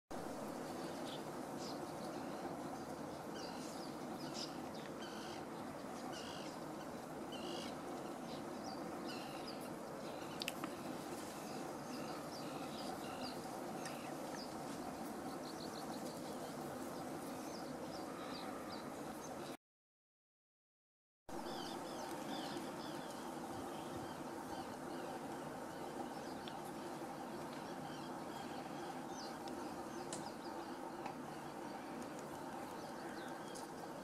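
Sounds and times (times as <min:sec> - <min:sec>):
birds chirping: 0:00.2 - 0:19.6, 0:21.3 - 0:34.0
faint hum: 0:00.2 - 0:19.6, 0:21.3 - 0:34.0
steady background hiss: 0:00.2 - 0:19.6, 0:21.3 - 0:34.0.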